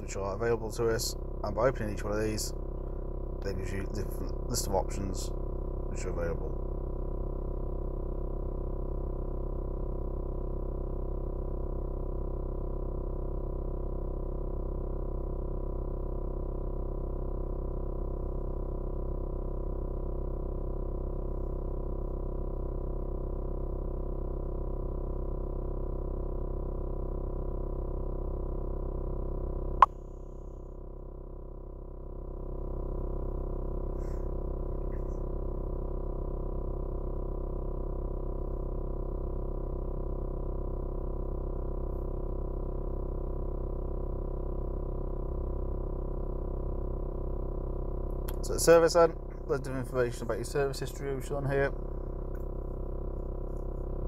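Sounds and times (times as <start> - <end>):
low hum of held tones: 0.0 - 54.0.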